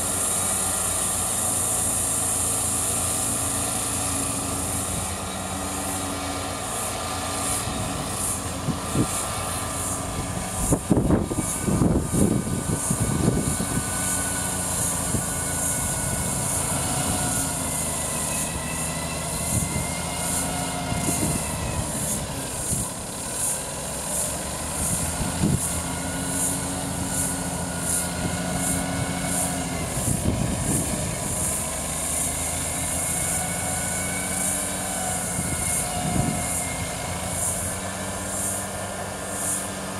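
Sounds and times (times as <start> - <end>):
flail cutting thick grass: 0.0 - 39.9
mower engine running under load: 0.0 - 39.9.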